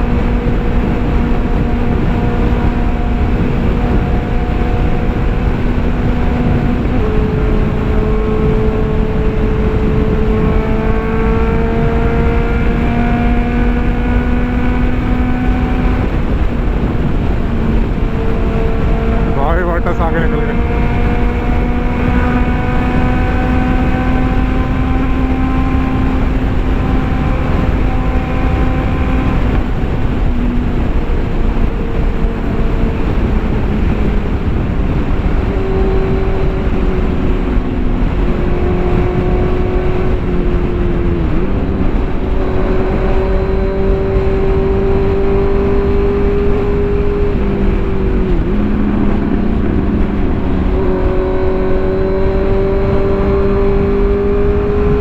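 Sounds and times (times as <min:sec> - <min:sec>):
heavy wind rush: 0:00.0 - 0:55.0
motorcycle engine cruising: 0:00.0 - 0:55.0.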